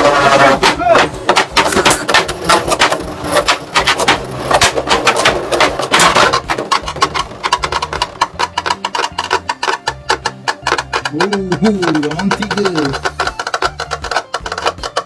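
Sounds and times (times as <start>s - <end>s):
spinning tops clattering: 1.2s - 15.0s.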